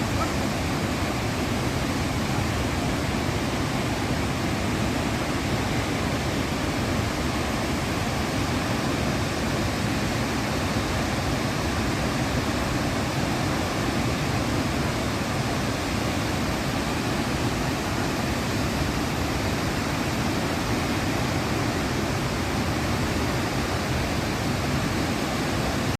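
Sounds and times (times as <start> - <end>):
waterfall roar: 0.0 - 25.9.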